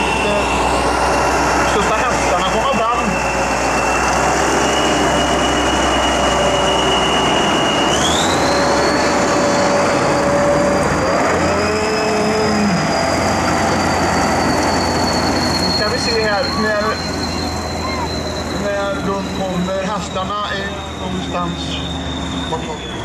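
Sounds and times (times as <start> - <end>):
high engine whine: 0.0 - 23.0
tractor diesel engine under load: 0.0 - 23.0.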